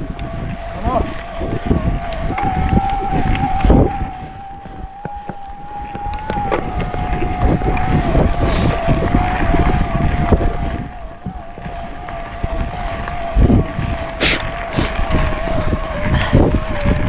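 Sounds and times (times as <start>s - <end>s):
electric bike motor whining: 0.0s - 17.0s
wind buffeting microphone: 0.0s - 17.0s.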